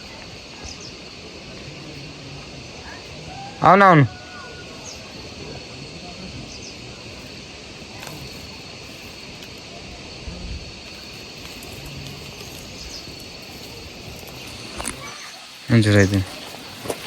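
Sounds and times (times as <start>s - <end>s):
faint hiss: 0.0s - 17.0s
insect trill: 0.0s - 17.0s.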